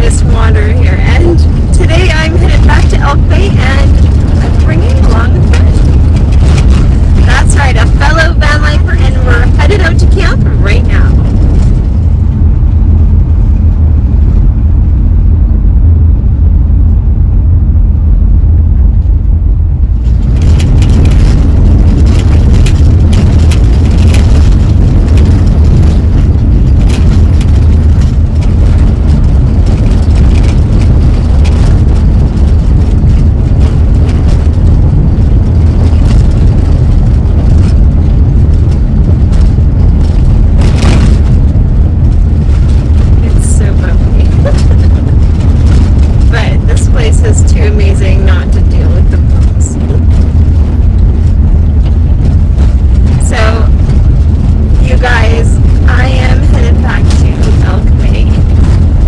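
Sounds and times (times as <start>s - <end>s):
crackle and rattle: 0.0s - 59.0s
road and engine rumble: 0.0s - 59.0s.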